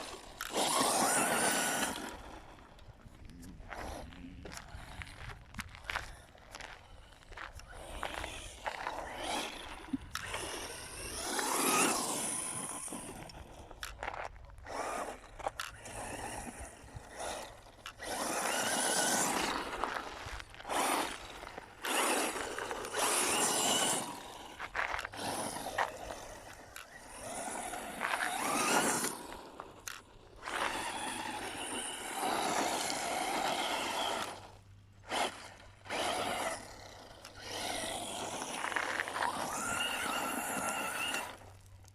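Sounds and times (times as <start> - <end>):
electric motor whine: 0.0 - 41.9
rough scraping on dirt: 0.0 - 41.9.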